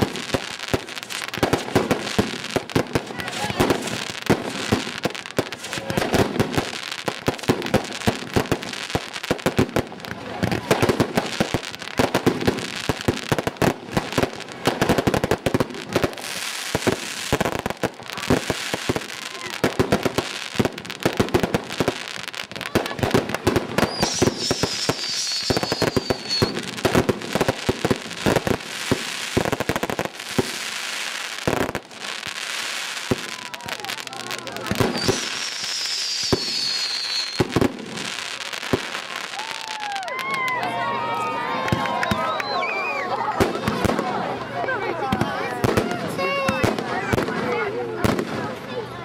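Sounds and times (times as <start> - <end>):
fireworks bangs and cracks: 0.0 - 40.7, 41.4 - 48.8.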